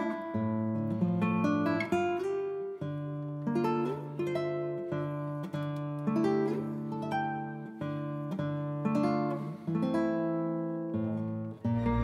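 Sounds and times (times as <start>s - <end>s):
guitar chords: 0.0s - 12.0s.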